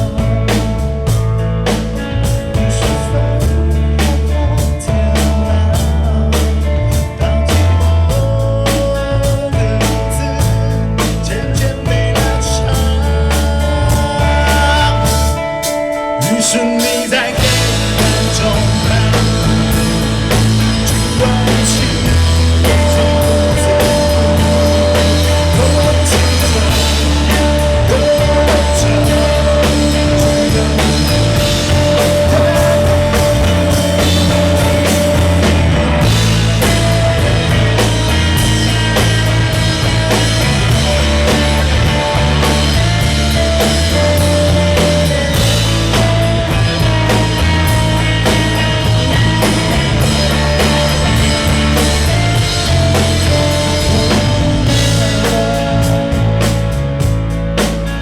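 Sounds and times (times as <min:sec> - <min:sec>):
live band playing: 0:00.0 - 0:58.0
steady drumbeat: 0:00.0 - 0:58.0.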